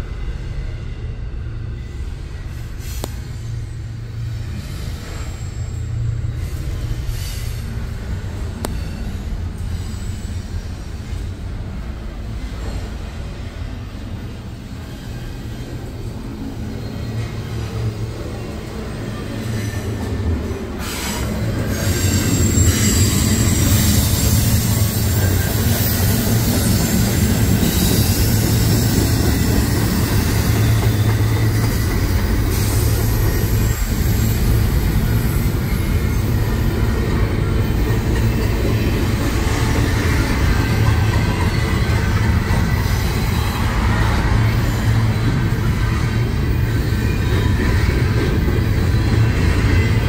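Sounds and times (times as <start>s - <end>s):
freight train rumbling and rattling: 0.0s - 50.0s.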